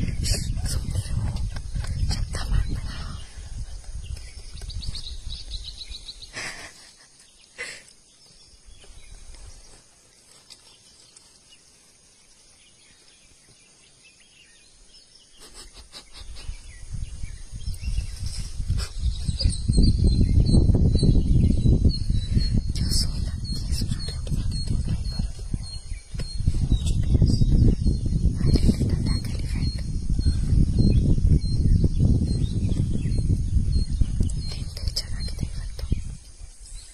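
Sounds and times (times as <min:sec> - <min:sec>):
faint chirps and clicks: 0:00.2 - 0:36.9.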